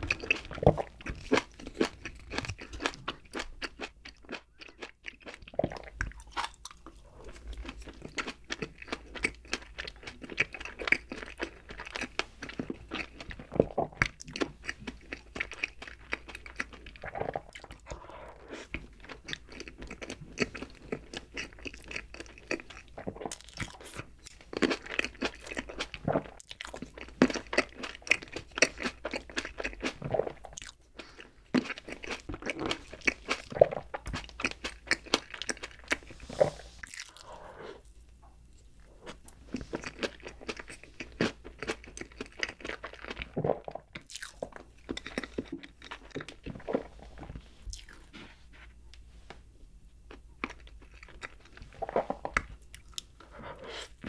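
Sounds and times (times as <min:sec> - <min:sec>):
close chewing with wet clicks: 0:00.0 - 0:18.0, 0:18.6 - 0:36.1, 0:39.3 - 0:46.7, 0:50.1 - 0:53.3.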